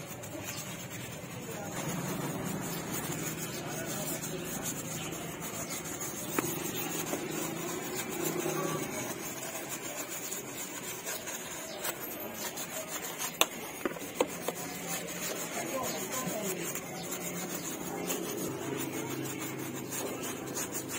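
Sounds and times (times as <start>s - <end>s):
brush scrubbing metal parts: 0.0s - 20.9s.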